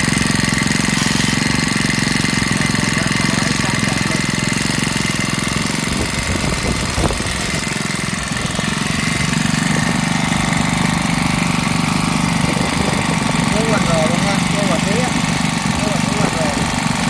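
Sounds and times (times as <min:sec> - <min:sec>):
brush cutter engine running: 0:00.0 - 0:17.0.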